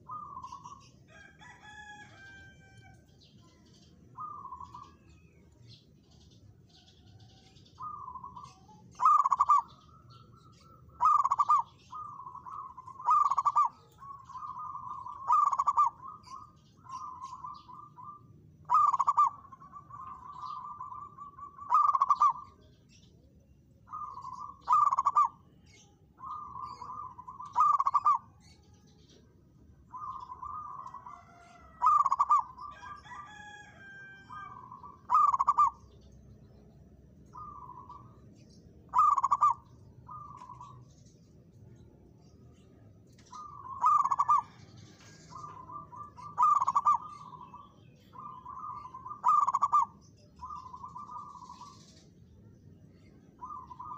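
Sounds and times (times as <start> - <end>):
dove cooing: 0.0 - 2.8, 4.1 - 5.1, 6.1 - 22.6, 23.9 - 29.2, 29.9 - 36.0, 37.3 - 38.2, 38.9 - 40.8, 43.2 - 52.0, 53.4 - 53.9.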